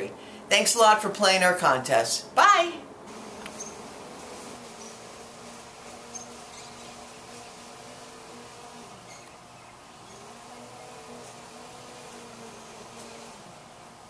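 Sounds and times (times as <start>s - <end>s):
background hiss: 0.0s - 14.0s
faint low buzzing hum: 0.0s - 14.0s.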